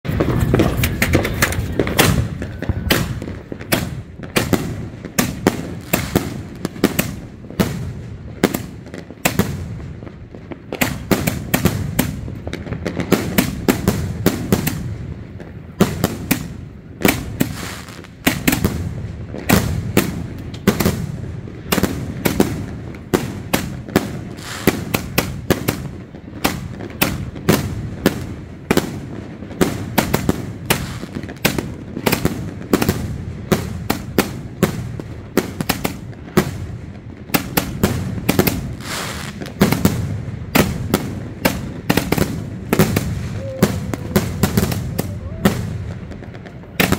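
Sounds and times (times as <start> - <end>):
firework launches and aerial bursts: 0.1 - 46.9.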